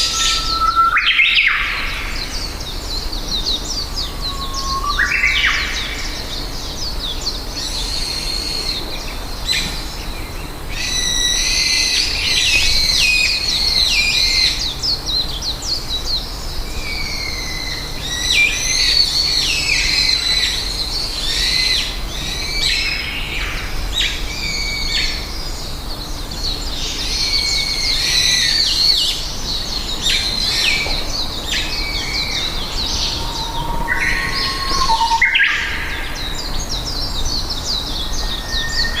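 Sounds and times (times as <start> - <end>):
low background noise: 0.0 - 39.0
small birds chirping: 0.0 - 39.0.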